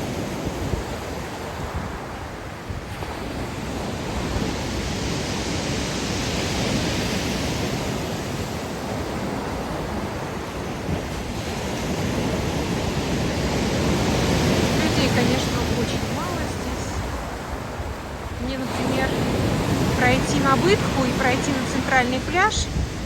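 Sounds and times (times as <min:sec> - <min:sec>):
waves breaking on a beach: 0:00.0 - 0:23.0
wind on microphone: 0:00.0 - 0:23.0.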